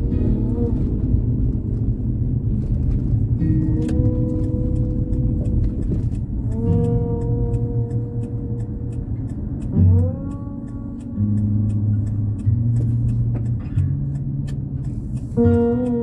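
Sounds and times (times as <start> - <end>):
low vehicle rumble: 0.0 - 16.0
ticking beat: 0.0 - 16.0.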